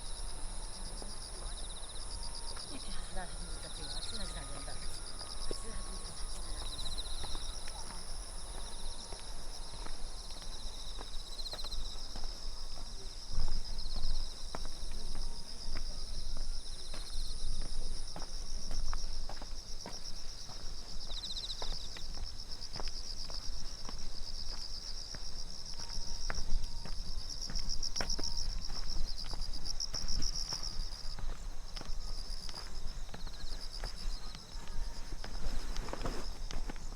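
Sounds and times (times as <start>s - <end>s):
high-pitched insect chirping: 0.0s - 36.9s
footsteps walking: 4.1s - 36.9s.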